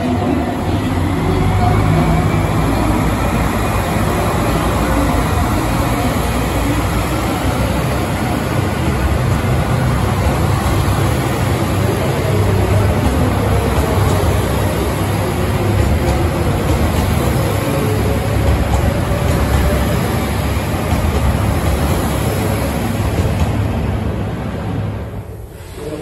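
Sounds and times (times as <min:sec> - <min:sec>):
diesel train engines running: 0:00.0 - 0:26.0.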